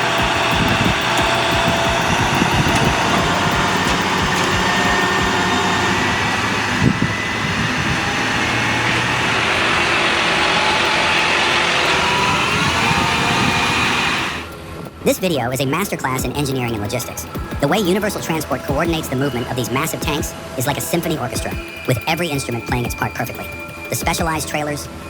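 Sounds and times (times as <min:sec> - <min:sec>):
heavy truck engines running: 0:00.0 - 0:25.0
road and traffic noise: 0:00.0 - 0:25.0.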